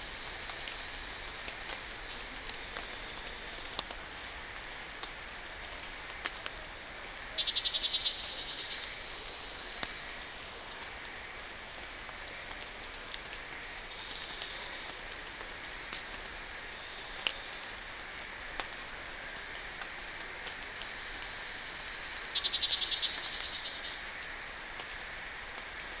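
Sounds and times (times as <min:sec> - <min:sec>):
insects chirping: 0:00.1 - 0:26.0.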